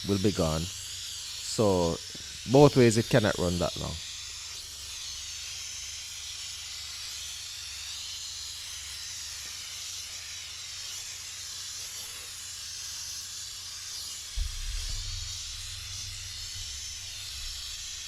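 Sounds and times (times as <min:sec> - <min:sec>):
steam cleaner hissing: 0:00.0 - 0:18.0.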